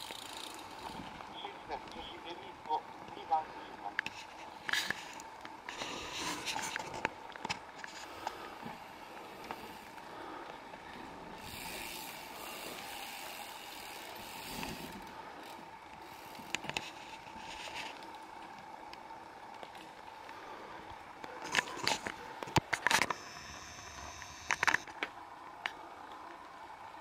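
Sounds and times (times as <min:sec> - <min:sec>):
bike clicks: 0:00.0 - 0:27.0
bike tyres rushing: 0:00.0 - 0:27.0.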